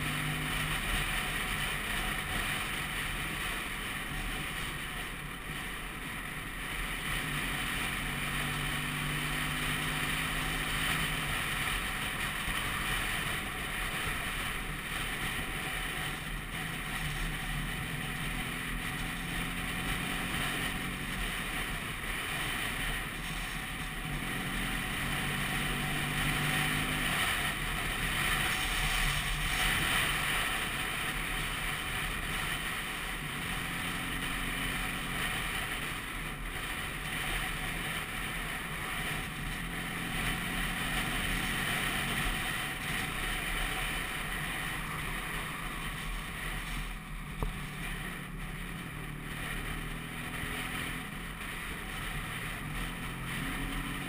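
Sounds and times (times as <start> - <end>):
scooter engine: 0.0 - 54.0.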